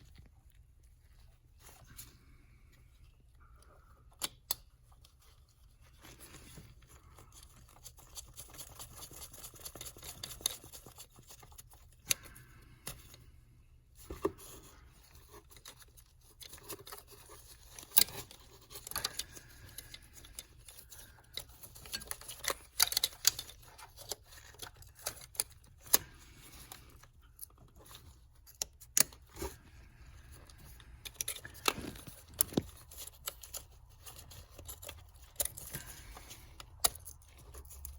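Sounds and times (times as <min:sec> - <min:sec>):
hand tools clicking and scraping: 0:06.0 - 0:13.3, 0:14.0 - 0:37.9.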